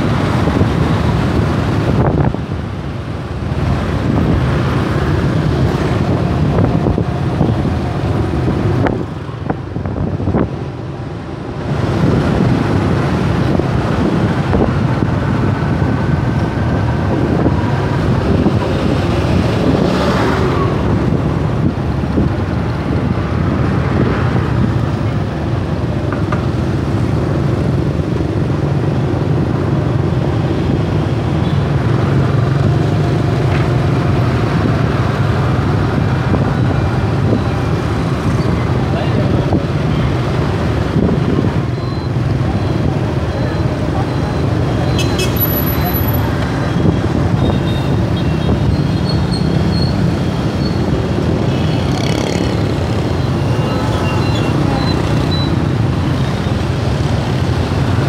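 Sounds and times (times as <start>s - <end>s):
motorbike engines humming: 0.0s - 58.0s.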